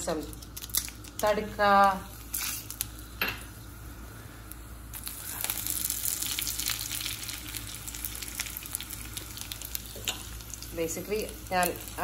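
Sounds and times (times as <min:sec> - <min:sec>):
curry leaves crackling in oil: 0:00.0 - 0:12.0
spices sizzling in hot oil: 0:00.0 - 0:12.0.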